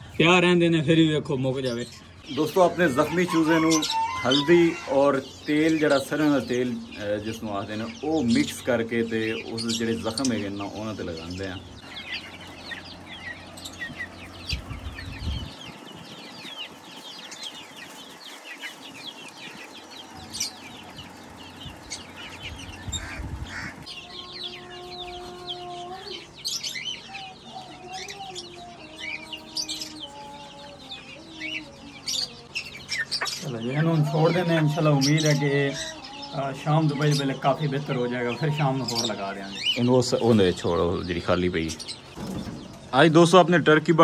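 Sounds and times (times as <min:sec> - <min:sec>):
chicks peeping: 0:00.0 - 0:44.0
hens clucking: 0:00.0 - 0:44.0.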